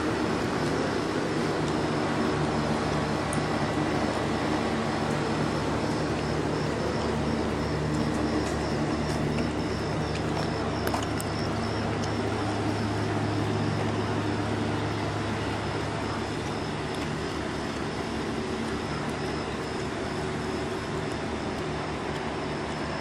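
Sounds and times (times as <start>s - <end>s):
faint high whine: 0.0s - 23.0s
machine drone with low hum: 0.0s - 23.0s.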